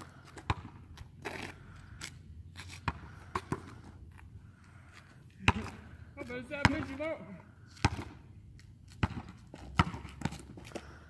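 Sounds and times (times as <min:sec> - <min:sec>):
basketball bouncing on asphalt: 0:00.0 - 0:11.0.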